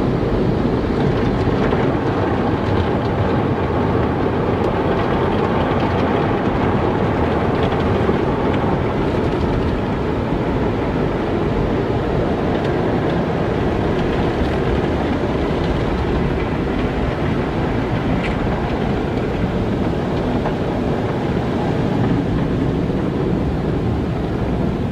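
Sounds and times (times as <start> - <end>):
car wash rumbling: 0.0 - 24.9.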